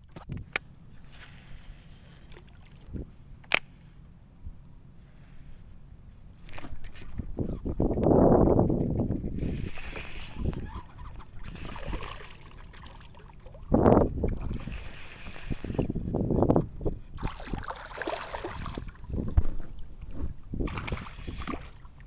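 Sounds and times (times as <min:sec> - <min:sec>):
water splashing around kayak: 0:00.0 - 0:03.8, 0:06.4 - 0:22.0.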